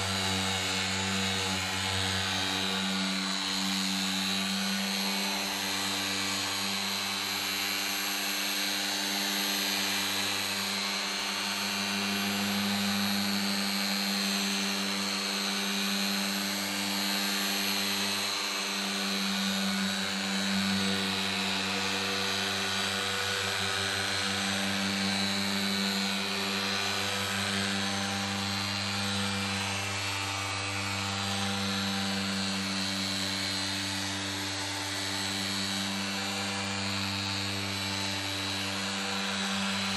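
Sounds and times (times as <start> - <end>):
electric car polisher running: 0.0 - 39.9.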